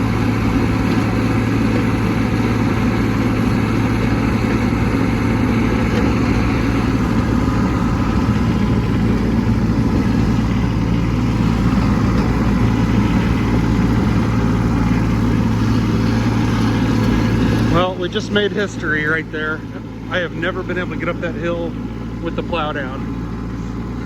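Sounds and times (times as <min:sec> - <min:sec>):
plow pushing snow: 0:00.0 - 0:24.0
tractor diesel engine under load: 0:00.0 - 0:24.0.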